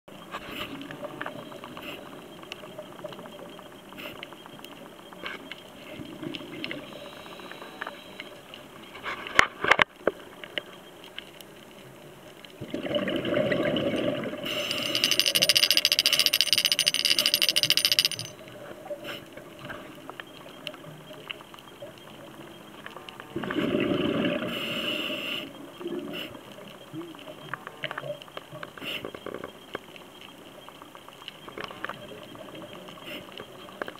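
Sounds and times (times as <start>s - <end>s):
exhaled bubbles crackling hiss: 0.2s - 14.8s, 18.5s - 33.9s.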